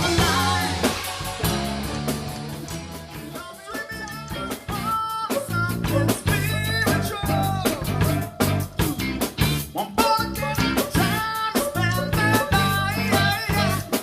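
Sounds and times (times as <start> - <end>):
bass guitar: 0.0 - 14.0
drum kit beat: 0.0 - 14.0
electric guitar: 0.0 - 14.0
person singing: 0.0 - 14.0.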